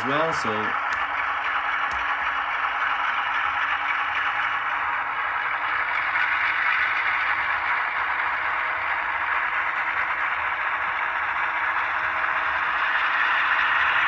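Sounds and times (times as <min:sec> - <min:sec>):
diesel engine sound through small speaker: 0:00.0 - 0:14.0.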